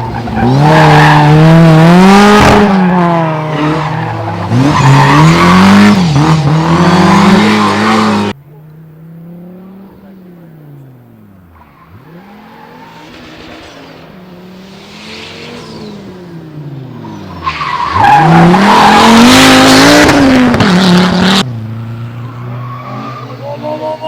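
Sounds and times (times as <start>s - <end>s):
car passing close: 0.0s - 24.0s
rally car engine revving: 0.0s - 24.0s.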